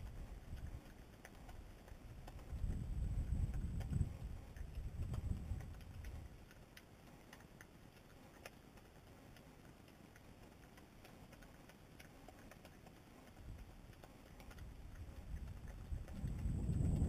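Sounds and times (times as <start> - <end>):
badger licking and chewing: 0.0 - 17.0.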